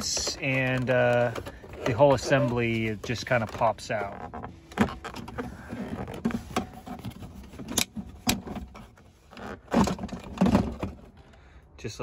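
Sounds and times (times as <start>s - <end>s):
plastic trim rustling and scraping: 0.0s - 11.2s.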